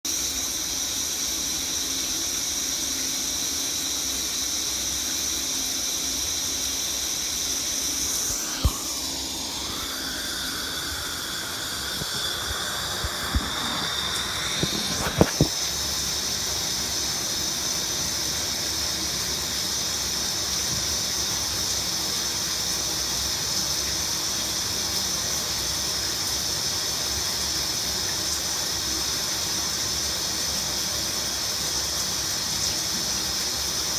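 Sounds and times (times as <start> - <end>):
shower water running: 0.1 - 33.9.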